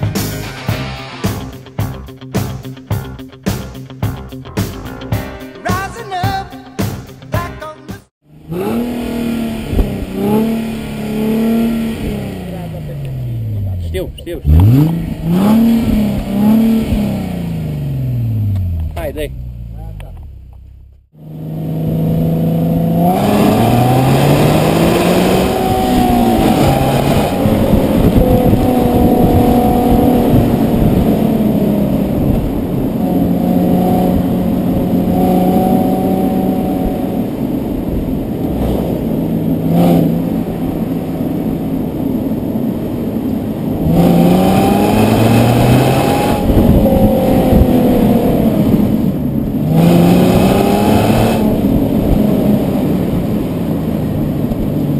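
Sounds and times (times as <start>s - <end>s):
car engine revving through gears: 8.3s - 54.8s.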